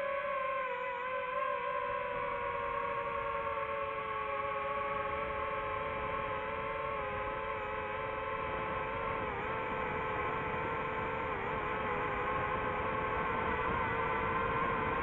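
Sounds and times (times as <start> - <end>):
drone propellers whining: 0.2 - 15.0.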